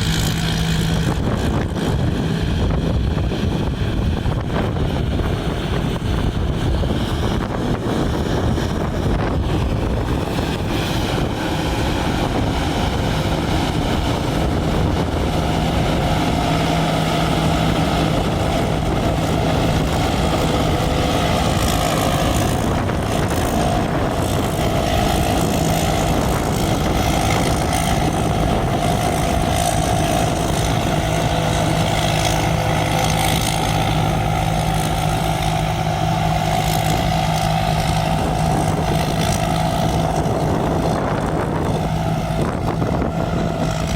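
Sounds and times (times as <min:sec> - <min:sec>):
combine harvester engine drone: 0:00.0 - 0:43.9
steady low hum: 0:00.0 - 0:43.9.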